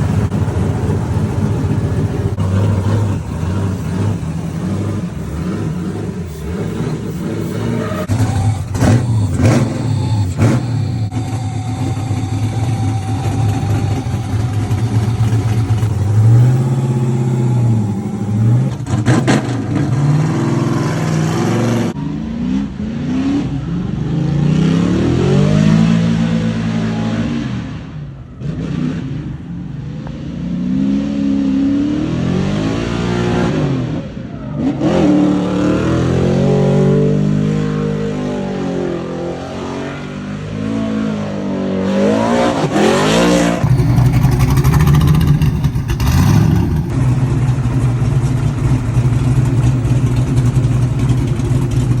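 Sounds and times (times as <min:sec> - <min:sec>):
car engines revving: 0:00.0 - 0:52.0
engine at steady speed: 0:00.0 - 0:52.0.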